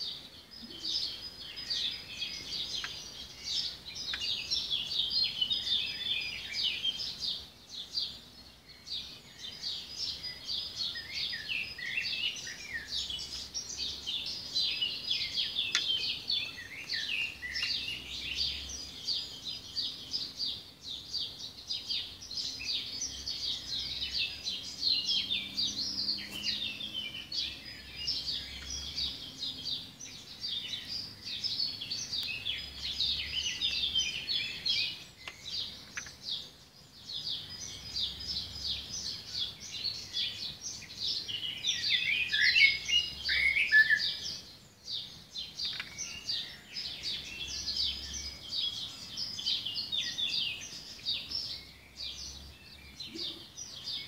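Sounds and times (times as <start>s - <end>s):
birds chirping and singing: 0.0s - 54.0s.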